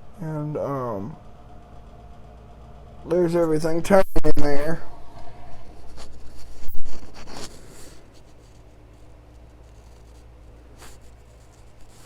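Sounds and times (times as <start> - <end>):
heater fan motor humming: 0.0 - 12.0.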